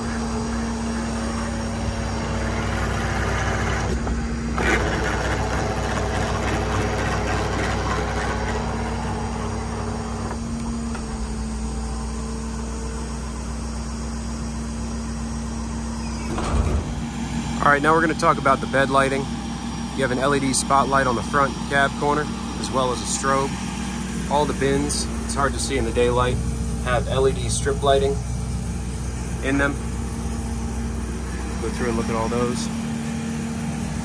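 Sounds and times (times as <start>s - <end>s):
diesel engine idling: 0.0s - 34.0s
hydraulic rushing whirring: 0.0s - 34.0s.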